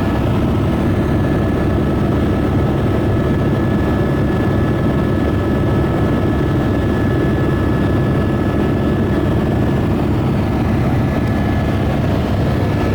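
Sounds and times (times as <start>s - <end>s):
helicopter rotor and engine: 0.0s - 12.9s.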